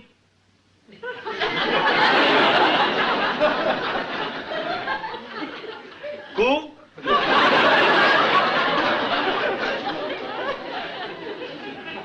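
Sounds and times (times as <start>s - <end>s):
audience laughing: 0.9s - 6.4s, 7.0s - 12.0s.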